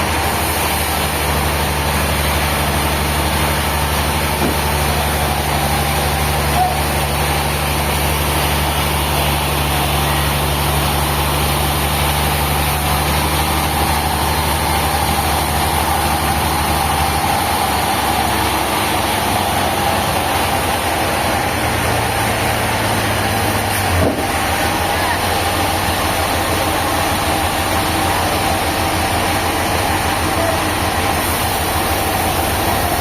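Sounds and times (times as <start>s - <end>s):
constant mechanical noise: 0.0s - 33.0s
heavy engine running: 0.0s - 33.0s.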